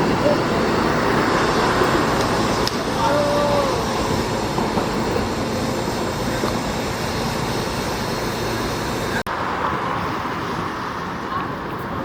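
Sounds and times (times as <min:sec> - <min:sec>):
train rumbling through station: 0:00.0 - 0:12.0.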